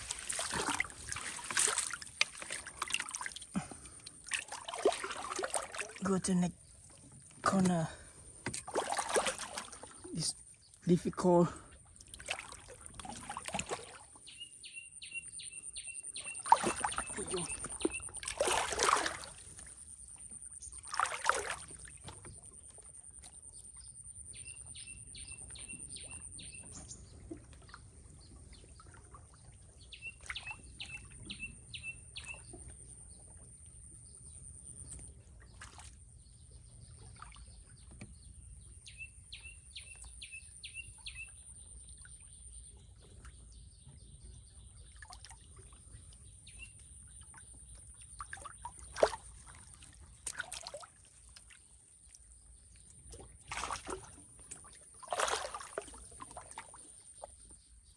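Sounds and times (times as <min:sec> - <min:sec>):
small water splashes: 0:00.0 - 0:14.4, 0:16.1 - 0:23.7, 0:24.7 - 0:57.9.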